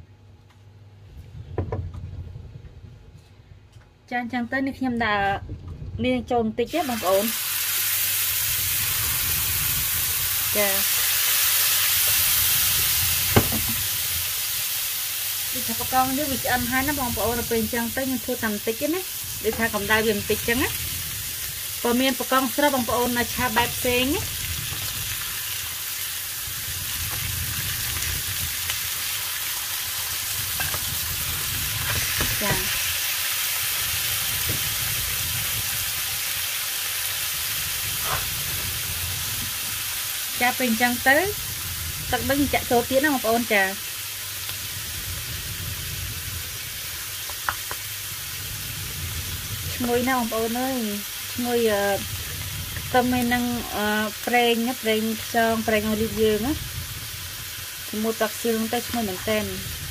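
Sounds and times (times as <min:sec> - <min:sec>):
frying sizzle in a pan: 0:06.6 - 0:59.9.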